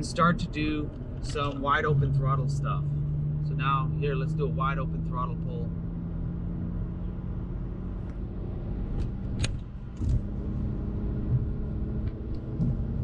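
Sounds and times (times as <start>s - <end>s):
car engine revving at full throttle: 0.0s - 13.0s.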